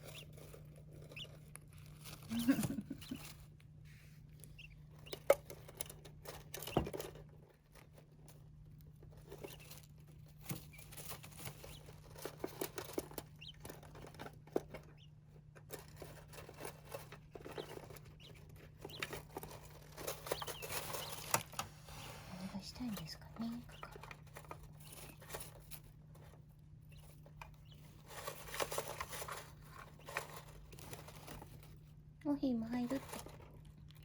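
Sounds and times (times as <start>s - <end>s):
birds pattering and rustling in sand: 0.0s - 34.0s.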